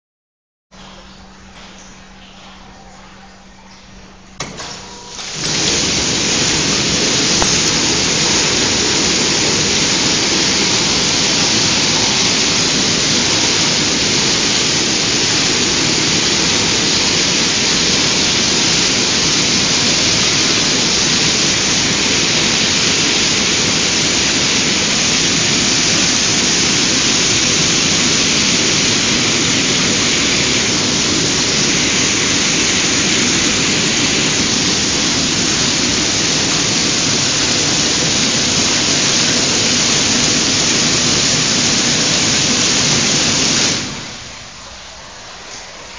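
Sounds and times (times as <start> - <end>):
water spray splashing: 4.4 - 44.6.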